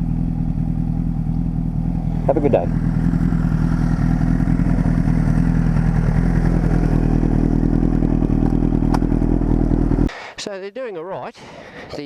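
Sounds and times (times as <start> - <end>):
sports bike engine running: 0.0 - 10.1.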